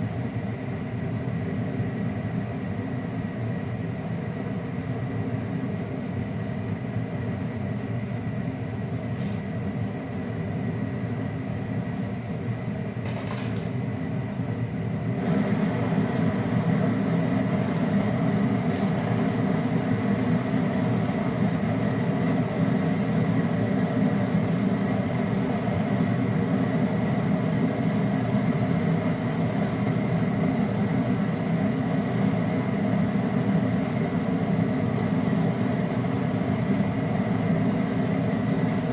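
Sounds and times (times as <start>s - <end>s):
refrigerator compressor humming: 0.0s - 38.9s
steady hiss: 0.0s - 38.9s.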